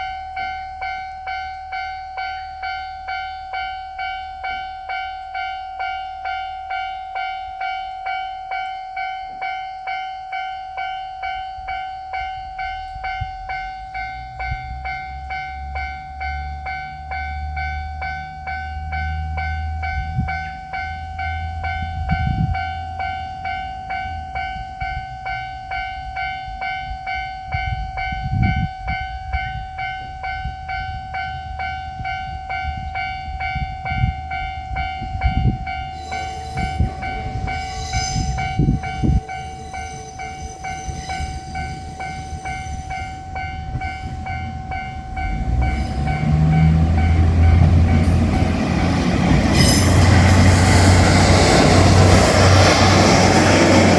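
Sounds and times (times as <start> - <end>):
railroad crossing bell ringing: 0.0 - 53.9
train engine rumble: 0.0 - 53.9.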